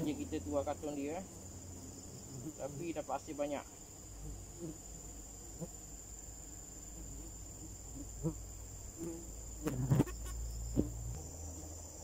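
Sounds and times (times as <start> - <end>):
high-pitched insect buzz: 0.0 - 12.0.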